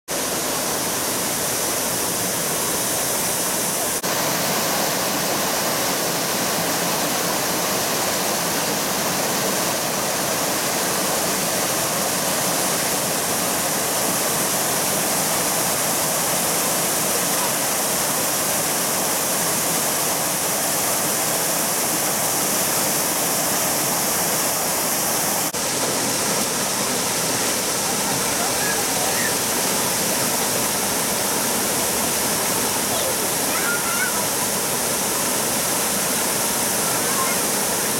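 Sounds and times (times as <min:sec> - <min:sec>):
waterfall and stream rushing: 0:00.1 - 0:37.9.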